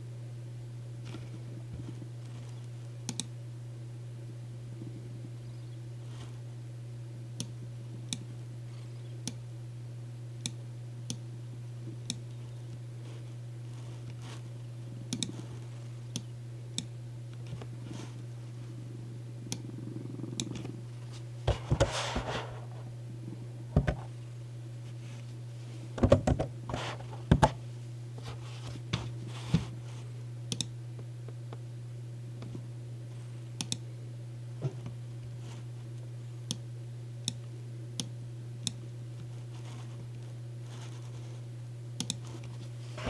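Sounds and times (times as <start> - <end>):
low white-noise hum: 0.0 - 43.0.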